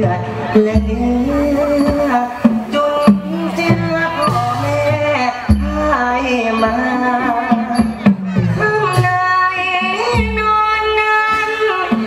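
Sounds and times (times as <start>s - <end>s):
traditional ensemble music: 0.0s - 12.0s
person singing ornamented notes: 0.6s - 12.0s
sharp percussion strikes: 0.7s - 12.0s.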